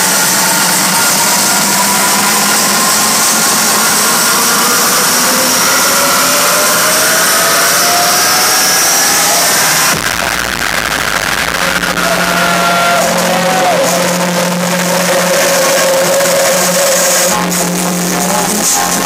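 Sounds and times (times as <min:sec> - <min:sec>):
climbing synth tones: 0:00.0 - 0:18.1
rising noise sweep: 0:00.0 - 0:18.2
electronic dance music build-up: 0:00.0 - 0:19.0.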